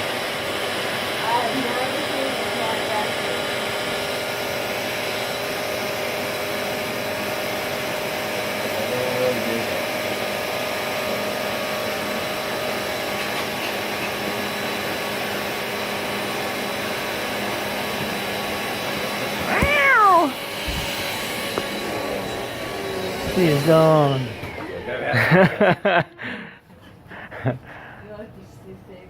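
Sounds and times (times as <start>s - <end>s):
vacuum cleaner running: 0.0s - 25.6s.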